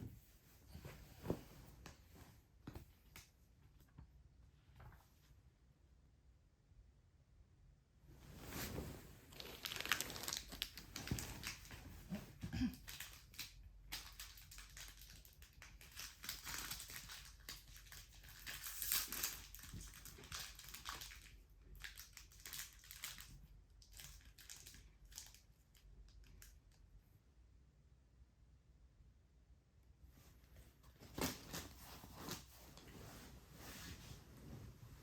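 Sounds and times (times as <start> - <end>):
crinkling and rustling: 0.0 - 5.4, 8.1 - 26.9, 30.1 - 35.0.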